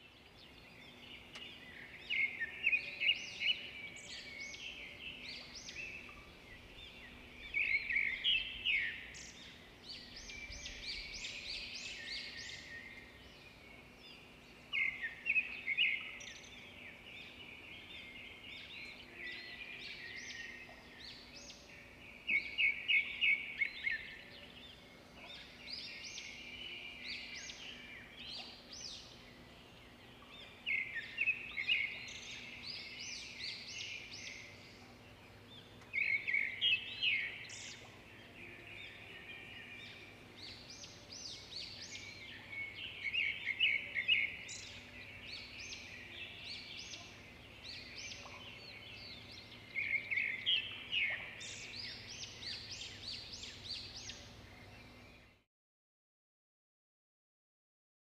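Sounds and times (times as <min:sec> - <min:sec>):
birds chirping and singing: 0:00.0 - 0:55.4
faint steady hum: 0:00.0 - 0:55.4.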